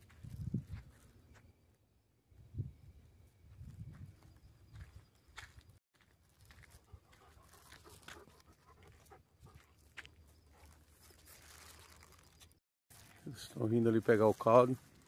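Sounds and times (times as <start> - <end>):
footsteps crunching on dirt: 0.0 - 1.6, 3.5 - 15.0.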